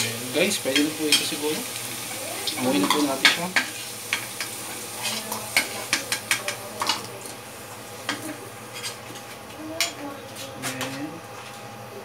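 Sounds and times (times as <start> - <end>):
oil sizzling: 0.0 - 10.4.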